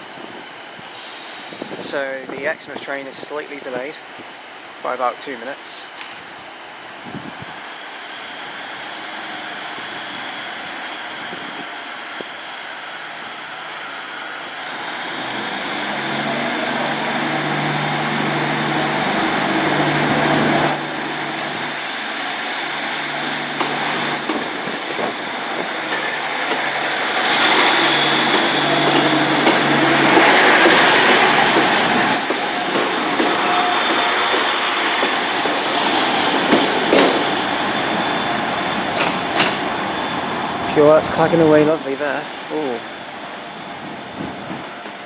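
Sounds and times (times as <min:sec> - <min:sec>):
diesel train engines pulling away: 0:00.0 - 0:45.0.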